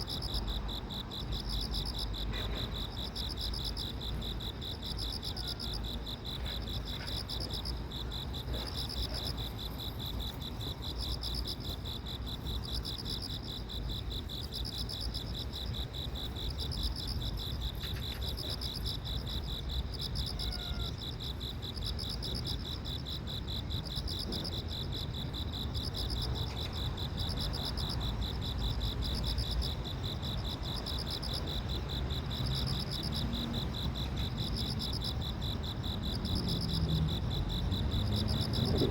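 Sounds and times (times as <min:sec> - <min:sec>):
higher pulsing insect trill: 0:00.0 - 0:38.9
insects trilling: 0:00.0 - 0:38.9.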